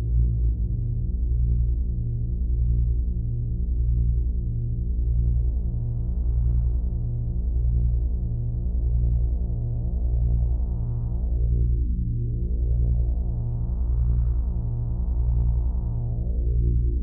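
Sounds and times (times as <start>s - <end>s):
throbbing low synth drone: 0.0s - 17.0s.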